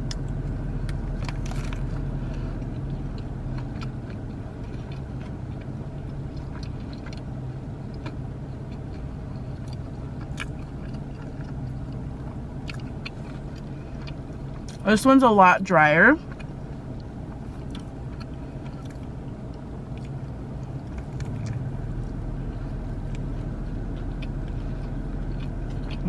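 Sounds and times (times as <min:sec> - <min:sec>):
crunchy biting and chewing: 0:00.0 - 0:14.8, 0:16.2 - 0:26.0
steady low hum: 0:00.0 - 0:26.0.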